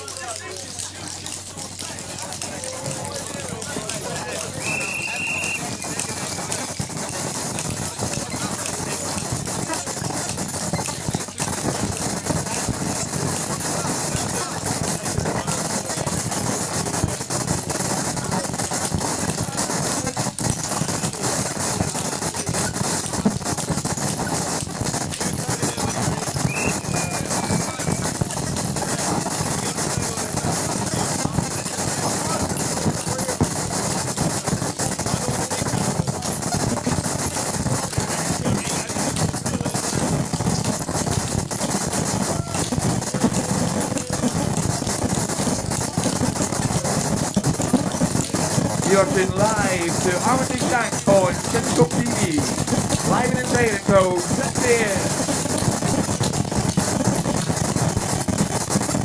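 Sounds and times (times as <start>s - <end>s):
dense hiss and crackle: 0.0s - 59.0s.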